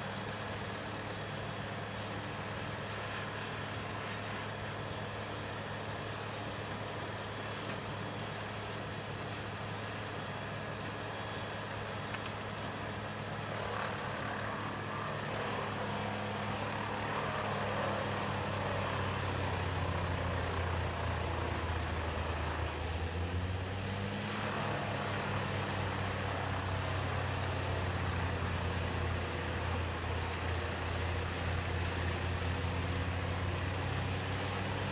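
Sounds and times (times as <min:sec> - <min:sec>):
large diesel engine running: 0:00.0 - 0:34.9.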